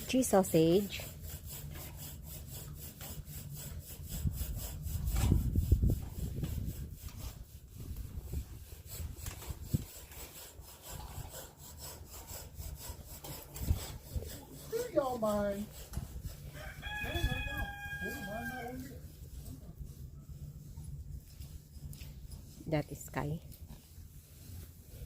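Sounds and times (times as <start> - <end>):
pig scratching against wood: 0.0 - 25.0.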